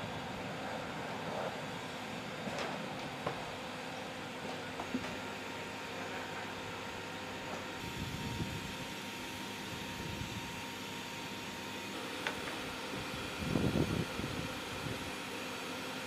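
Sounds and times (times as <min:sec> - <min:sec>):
ventilation equipment humming: 0:00.0 - 0:16.0.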